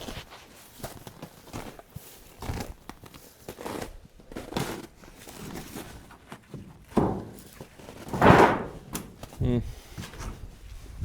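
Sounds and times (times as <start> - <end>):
crunching and scraping: 0.0 - 10.5.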